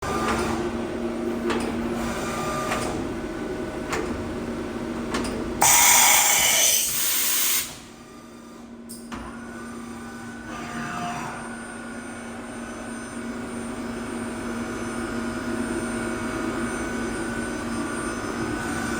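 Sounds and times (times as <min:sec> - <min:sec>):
machine hum and whine: 0:00.0 - 0:18.9.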